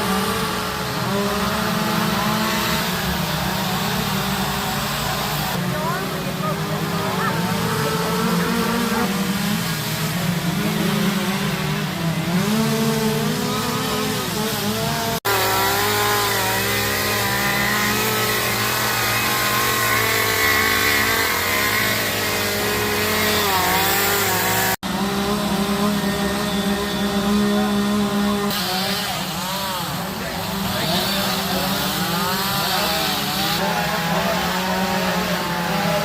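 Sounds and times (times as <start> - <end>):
chainsaws cutting wood: 0.0 - 36.0.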